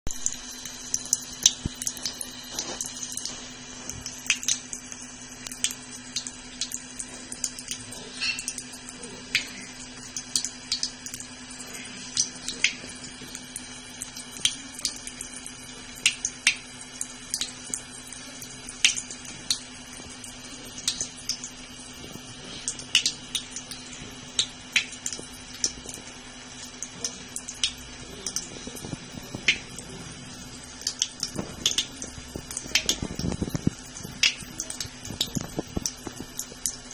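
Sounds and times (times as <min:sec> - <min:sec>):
tap water running into sink: 0:00.1 - 0:36.9
cat splashing water: 0:00.4 - 0:36.9.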